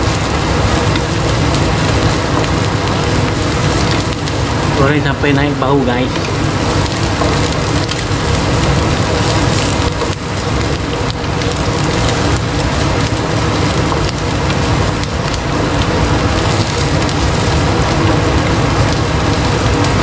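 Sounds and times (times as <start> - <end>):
spice paste sizzling in hot oil: 0.0 - 4.8, 5.7 - 20.0.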